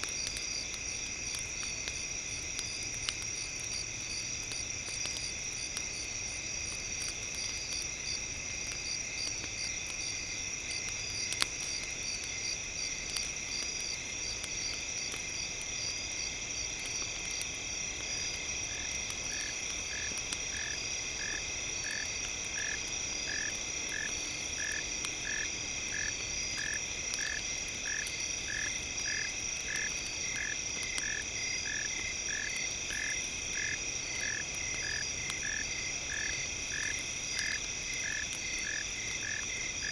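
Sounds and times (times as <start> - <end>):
campfire crackling: 0.0 - 39.9
frogs and insects trilling: 0.0 - 39.9.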